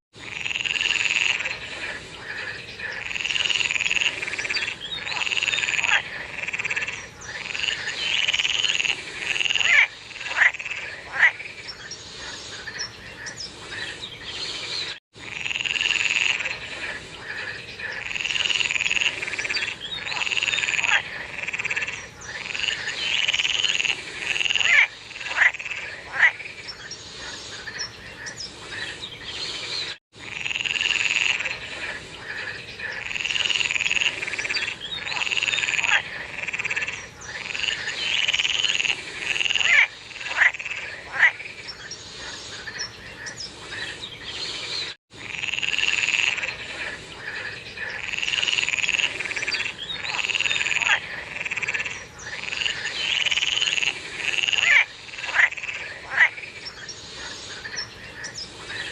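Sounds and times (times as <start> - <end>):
sharp loud frog calls: 0.2 - 13.8, 15.2 - 28.3, 30.2 - 43.3, 45.2 - 58.3
frogs chorus calling: 0.2 - 14.5, 15.2 - 29.4, 30.2 - 44.3, 45.1 - 58.9.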